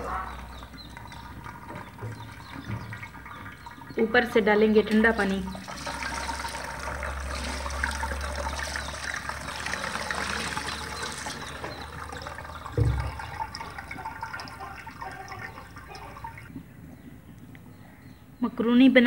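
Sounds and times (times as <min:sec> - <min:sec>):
water pouring into colander: 0:00.6 - 0:16.5.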